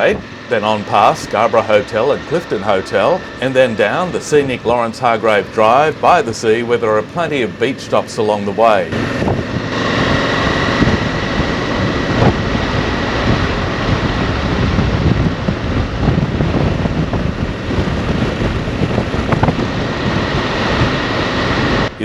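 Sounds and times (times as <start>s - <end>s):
motorcycle road noise: 0.0s - 22.0s
wind buffeting microphone: 0.0s - 22.0s.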